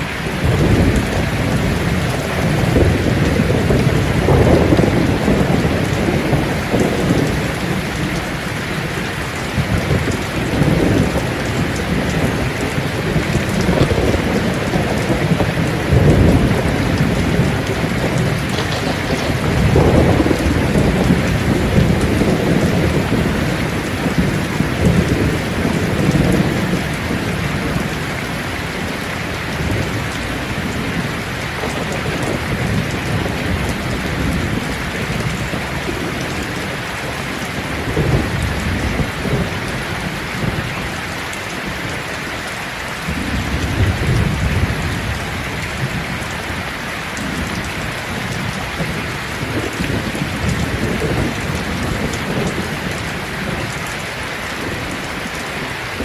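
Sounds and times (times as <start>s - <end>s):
thunder rumbling: 0.0s - 42.0s, 43.0s - 46.5s, 47.2s - 56.0s
rain falling on leaves: 0.0s - 56.0s.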